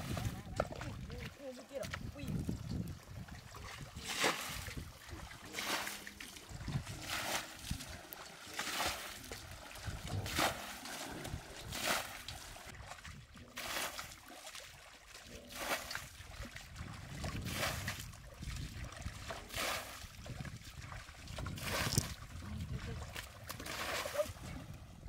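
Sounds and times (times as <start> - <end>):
water splashing: 0.0 - 25.0.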